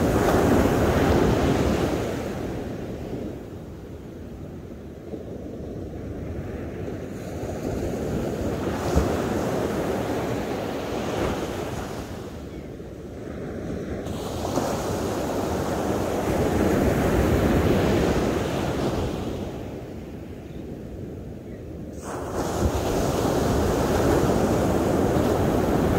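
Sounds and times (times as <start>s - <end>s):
surf breaking on a beach: 0.0s - 4.2s, 5.9s - 12.5s, 13.2s - 20.1s, 21.9s - 25.9s.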